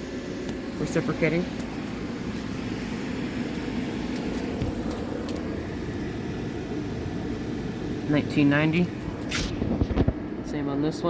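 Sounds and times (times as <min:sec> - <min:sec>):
air conditioner units humming: 0:00.0 - 0:11.0.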